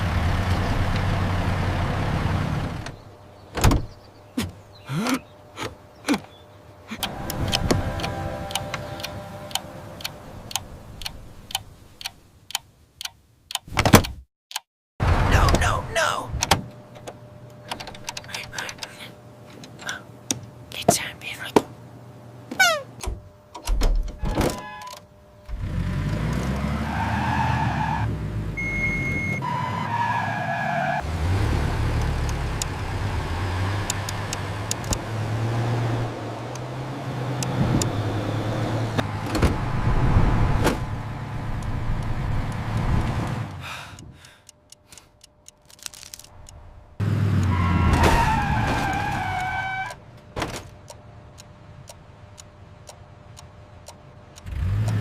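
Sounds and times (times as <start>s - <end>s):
truck engine driving: 0.0s - 12.1s, 15.0s - 21.0s, 21.8s - 55.0s.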